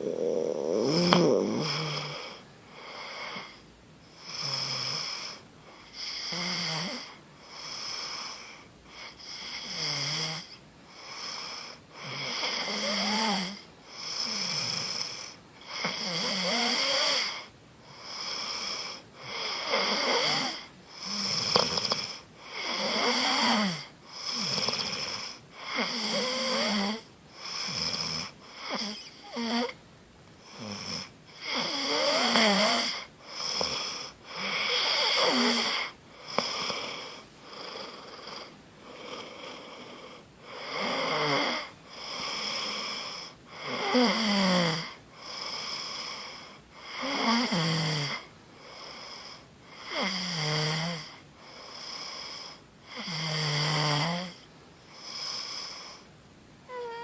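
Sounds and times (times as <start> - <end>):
person snoring: 0.0 - 3.6, 4.2 - 8.4, 9.1 - 29.8, 30.5 - 46.2, 46.8 - 54.4, 56.7 - 57.0.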